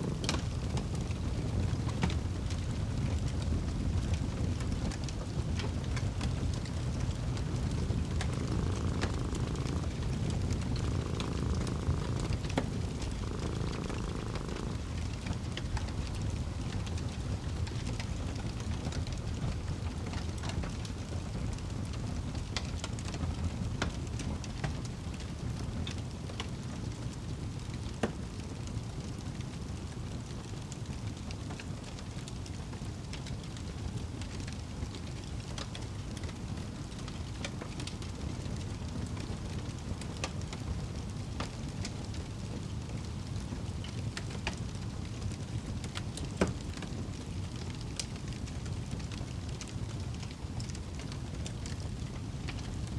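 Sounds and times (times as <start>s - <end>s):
low rumble of fire: 0.0s - 52.9s
wood fire crackling: 0.0s - 52.9s.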